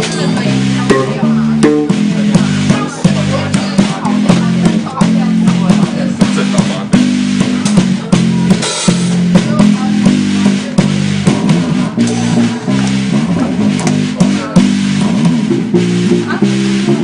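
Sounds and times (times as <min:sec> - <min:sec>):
bass guitar low notes: 0:00.0 - 0:17.0
drum kit beat: 0:00.0 - 0:17.0.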